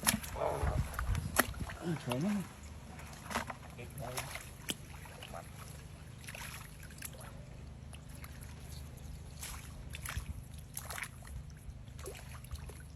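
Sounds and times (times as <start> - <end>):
shallow water splashing: 0.0 - 12.9.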